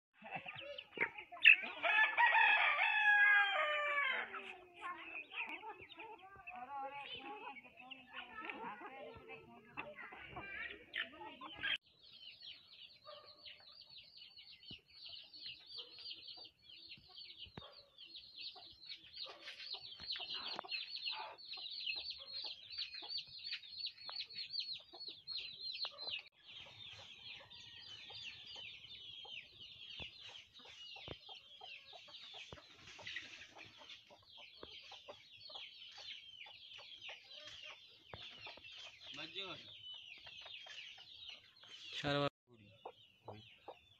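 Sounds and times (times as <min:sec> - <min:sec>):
chickens clucking: 0:00.2 - 0:43.9
chicks peeping and chirping: 0:00.2 - 0:43.9.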